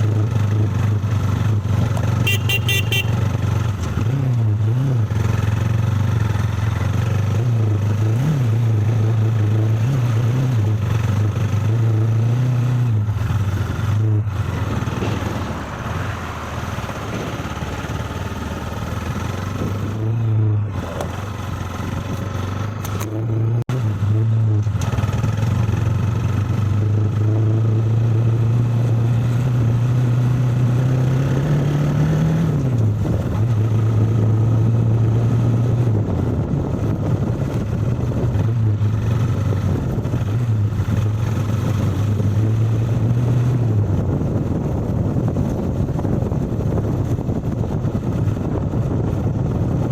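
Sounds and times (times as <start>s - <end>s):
vehicle engine on rough road: 0.0s - 49.9s.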